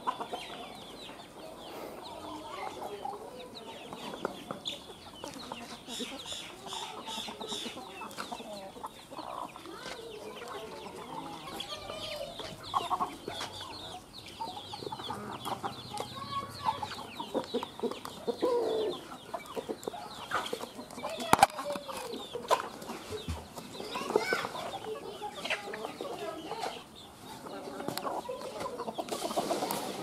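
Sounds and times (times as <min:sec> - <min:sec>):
chicks peeping: 0:00.0 - 0:30.0
hens clucking: 0:00.0 - 0:30.0.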